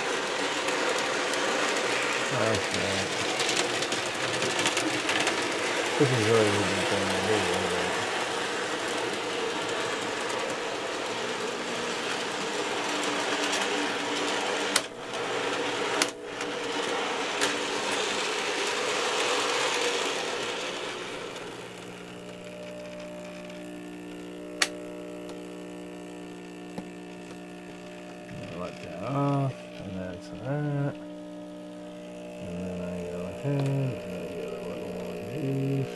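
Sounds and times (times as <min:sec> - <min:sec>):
electrical hum: 0:00.0 - 0:35.9
model train motor whirring: 0:00.0 - 0:35.9.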